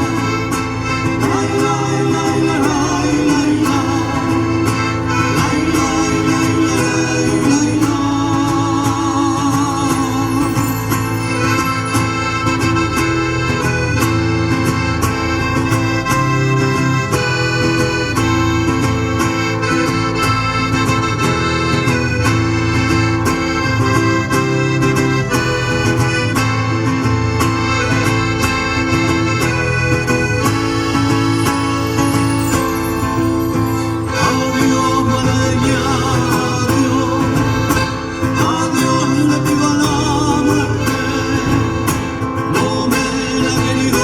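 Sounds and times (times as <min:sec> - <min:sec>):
folk music with accordion: 0:00.0 - 0:44.0.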